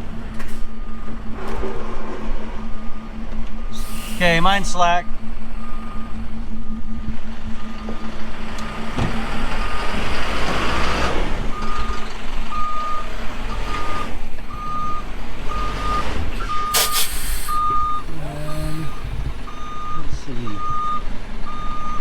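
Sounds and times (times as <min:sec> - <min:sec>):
engine running: 0:00.0 - 0:21.9
engine and wheel noise rush: 0:00.0 - 0:22.0
vehicle backup alarm beeping: 0:00.6 - 0:01.4, 0:02.6 - 0:10.2, 0:11.5 - 0:22.0.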